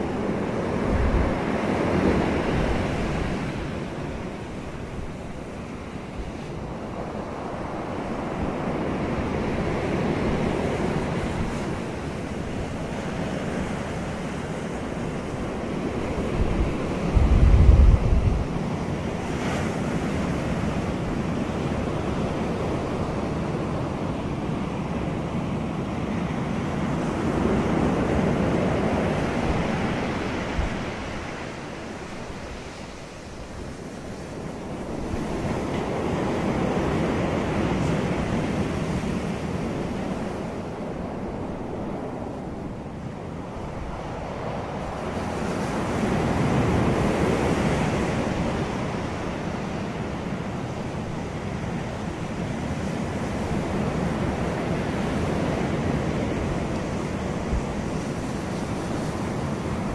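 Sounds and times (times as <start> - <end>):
ocean surf breaking on shore: 0.0 - 59.9.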